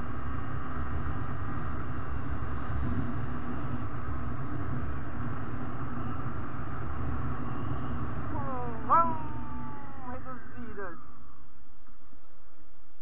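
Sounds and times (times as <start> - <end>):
wind rumble on microphone: 0.0 - 10.6.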